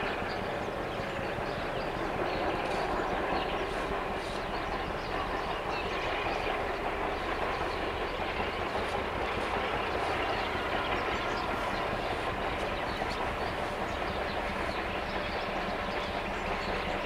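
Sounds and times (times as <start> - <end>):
train wheels clattering over joints: 0.1 - 17.0.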